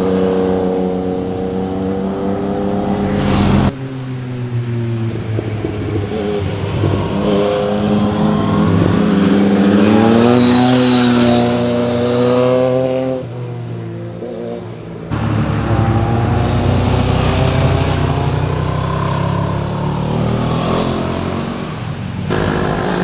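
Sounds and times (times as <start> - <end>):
motorcycle engines accelerating: 0.0 - 23.0.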